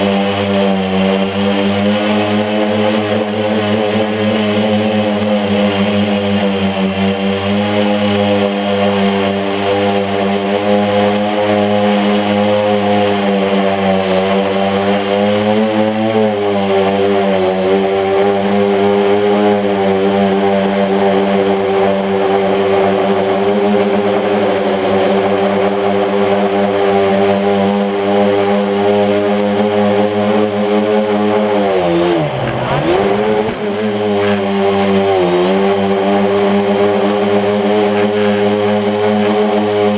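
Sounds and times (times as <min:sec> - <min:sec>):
drone motors and propellers humming: 0:00.0 - 0:39.9.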